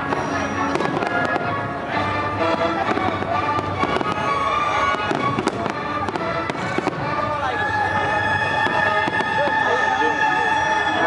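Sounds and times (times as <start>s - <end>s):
fireworks bangs and crackles: 0.0s - 10.8s
music with sustained tones: 0.0s - 11.0s.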